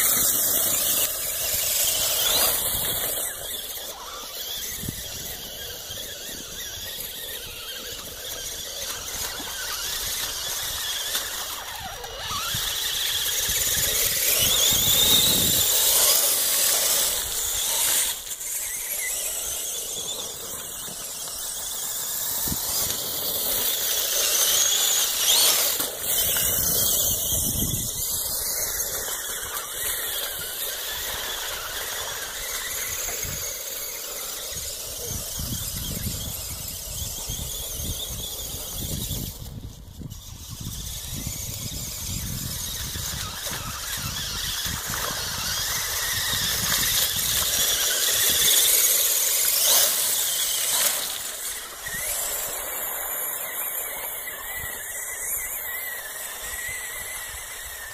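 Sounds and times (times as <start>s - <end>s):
toy truck motors whining: 0.0s - 57.9s.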